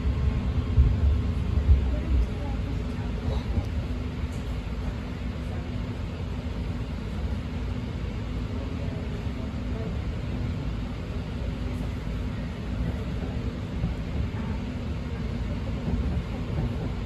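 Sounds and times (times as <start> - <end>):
train car low rumble: 0.0 - 17.0.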